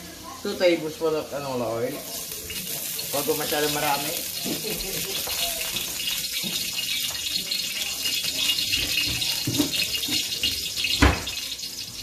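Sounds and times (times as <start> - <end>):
gas stovetop hissing: 0.0 - 12.0.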